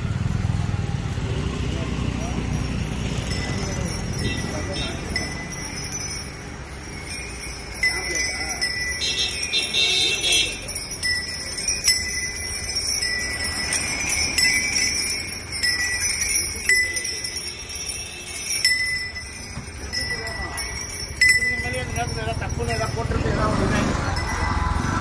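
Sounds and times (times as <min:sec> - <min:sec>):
elephant bell ringing: 0:01.0 - 0:25.0.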